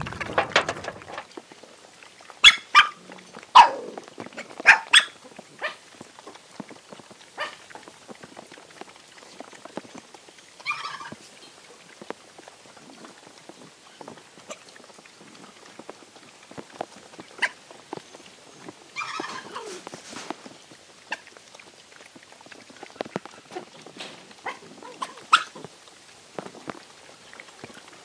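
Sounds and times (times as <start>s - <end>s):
dogs chewing and lapping: 0.0s - 28.0s.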